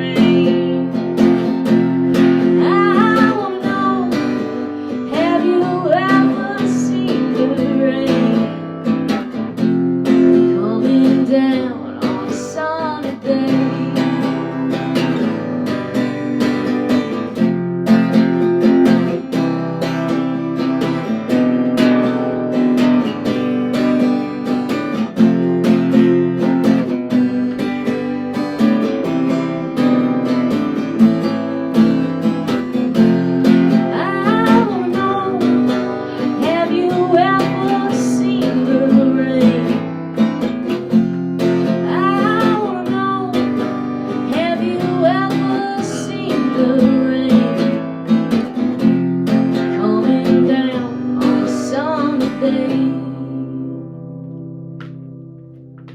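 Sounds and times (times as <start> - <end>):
acoustic guitar strumming melody: 0.0 - 55.9.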